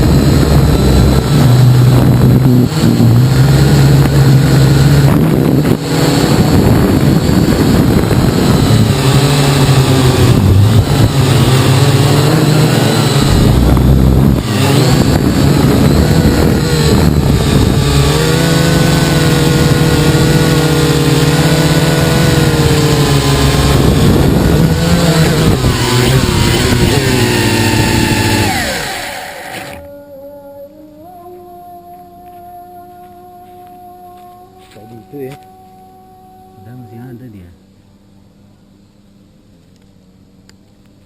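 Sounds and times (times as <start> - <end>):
drone motors buzzing: 0.0 - 37.8.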